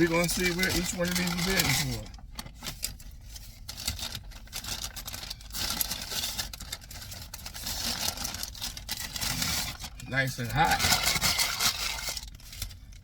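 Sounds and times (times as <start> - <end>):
paper bag rustling and crinkling: 0.0 - 13.0.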